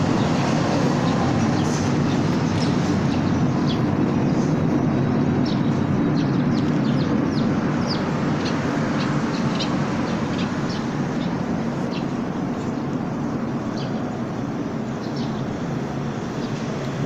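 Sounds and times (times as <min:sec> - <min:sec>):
low background rumble: 0:00.0 - 0:16.2
small birds chirping: 0:00.0 - 0:17.0.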